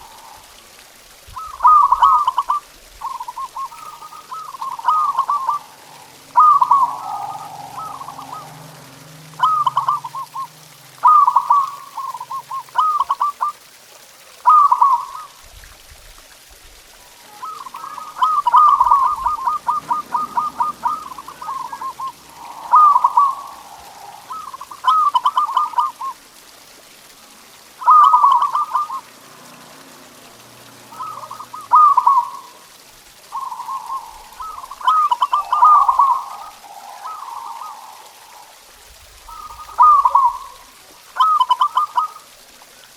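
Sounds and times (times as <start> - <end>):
dove cooing: 0.0 - 0.6, 1.2 - 13.6, 14.4 - 15.4, 17.1 - 42.4.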